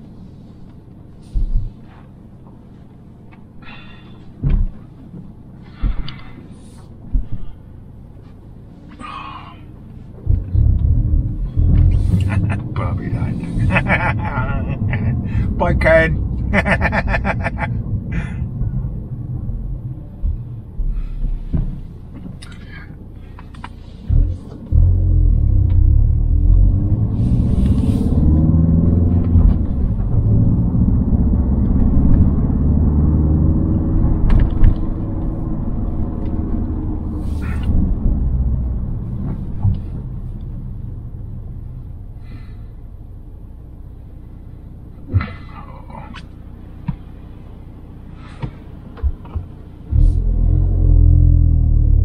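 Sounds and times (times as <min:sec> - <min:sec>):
car engine: 0:00.0 - 0:52.0
road rumble: 0:00.0 - 0:52.0.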